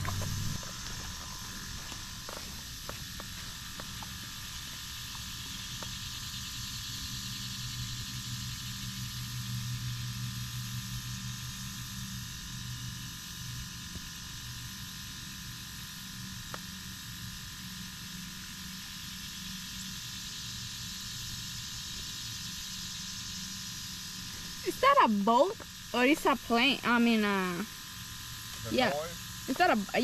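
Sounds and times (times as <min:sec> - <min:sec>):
distant airboat engine droning: 0:00.0 - 0:13.1, 0:18.4 - 0:30.0
high-pitched hiss: 0:00.0 - 0:30.0.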